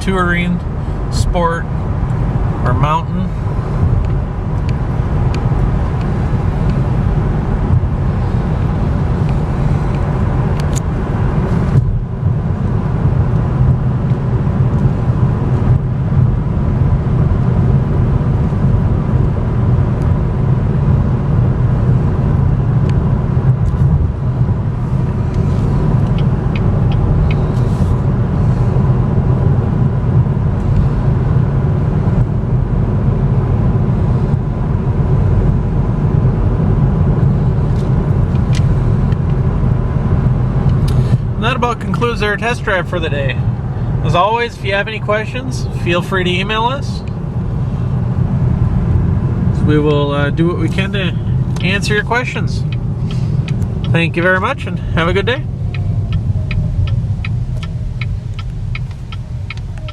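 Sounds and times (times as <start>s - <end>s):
road and tyre rumble in car cabin: 0.0s - 59.9s.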